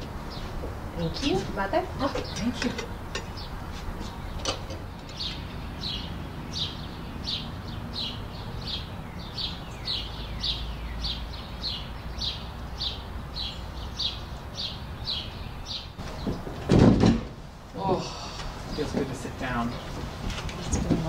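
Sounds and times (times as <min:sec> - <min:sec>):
songbird chirping: 0:00.0 - 0:16.7, 0:17.6 - 0:21.0
low outdoor background hum: 0:00.0 - 0:21.0.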